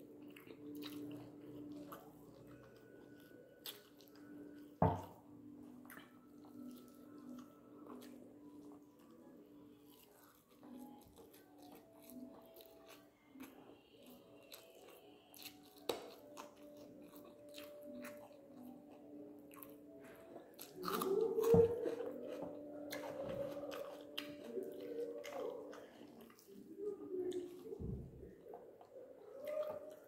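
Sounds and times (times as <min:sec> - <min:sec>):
person chewing food: 0:00.0 - 0:30.0.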